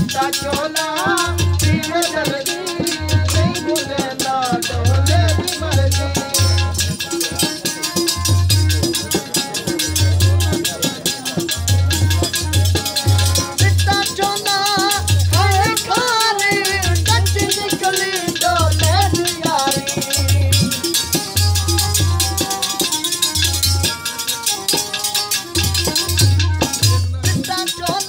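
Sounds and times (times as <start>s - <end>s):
man singing: 0.0s - 23.1s, 26.1s - 28.0s
harmonium: 0.0s - 28.0s.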